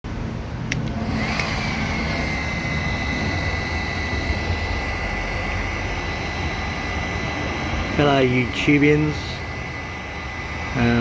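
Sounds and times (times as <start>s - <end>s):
heat gun blowing and whining: 0.7s - 11.0s.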